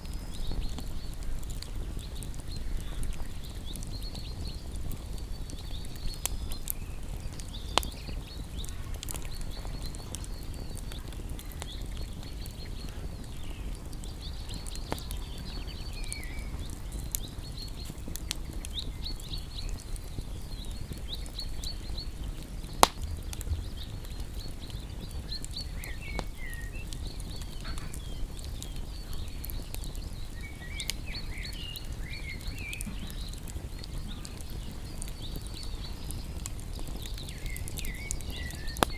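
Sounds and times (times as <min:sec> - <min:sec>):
fire popping: 0:00.0 - 0:38.9
small birds chirping: 0:00.0 - 0:38.9
wood fire crackling: 0:00.0 - 0:38.9.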